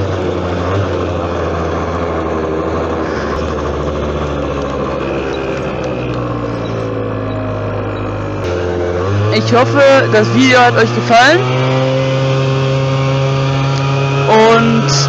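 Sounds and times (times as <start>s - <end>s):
small quad engine running: 0.0s - 15.0s.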